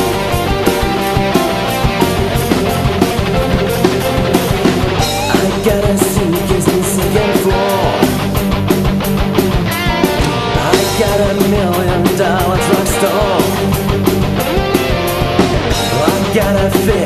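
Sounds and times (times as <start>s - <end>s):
drum kit playing: 0.0s - 17.0s
electric guitars: 0.0s - 17.0s
hard rock song: 0.0s - 17.0s.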